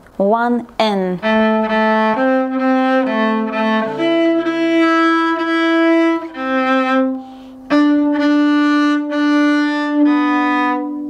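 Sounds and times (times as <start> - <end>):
solo cello melody: 1.2 - 11.0.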